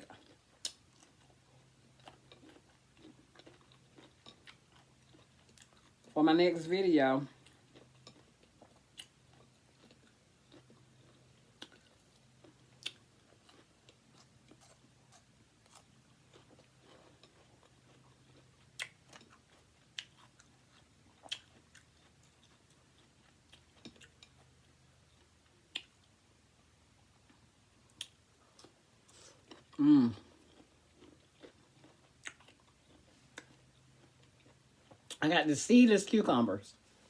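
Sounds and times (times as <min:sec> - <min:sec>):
chewing and crunching food: 0:00.0 - 0:35.2.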